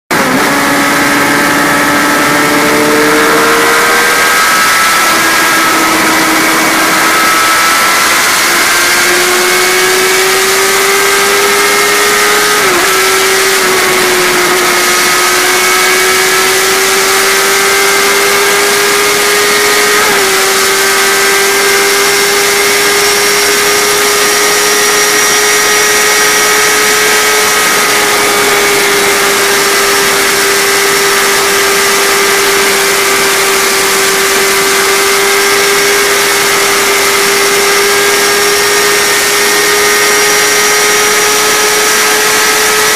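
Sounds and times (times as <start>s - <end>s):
motorcycle engine at high revs: 0.1s - 42.9s.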